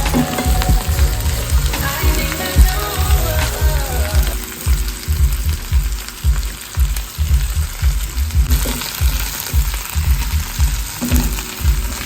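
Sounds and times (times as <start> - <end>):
background music with bass beat: 0.0 - 12.0.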